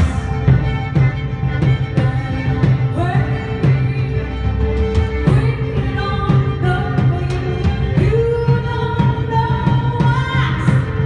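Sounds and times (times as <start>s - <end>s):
keyboard: 0.0s - 11.0s
steady drum beat: 0.0s - 11.0s
woman singing: 1.9s - 11.0s.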